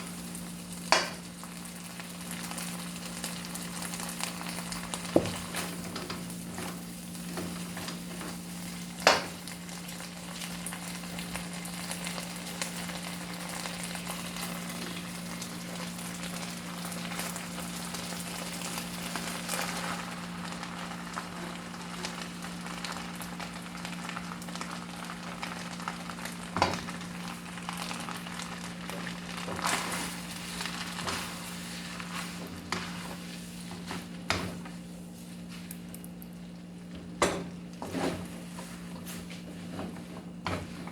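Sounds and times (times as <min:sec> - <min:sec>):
food sizzling in a pan: 0:00.0 - 0:34.4.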